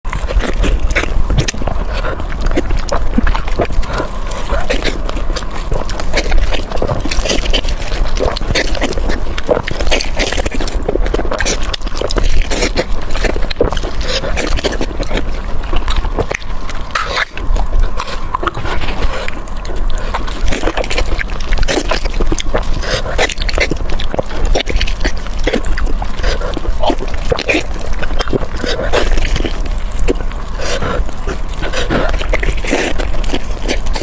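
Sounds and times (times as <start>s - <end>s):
wet chewing and smacking: 0.0s - 34.0s.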